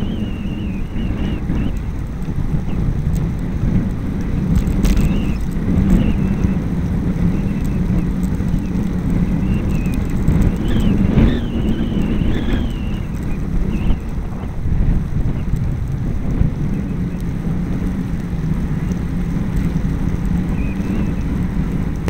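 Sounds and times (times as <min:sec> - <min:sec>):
road noise on wet tarmac: 0:00.0 - 0:22.0
wind rumbling on microphone: 0:00.0 - 0:22.0.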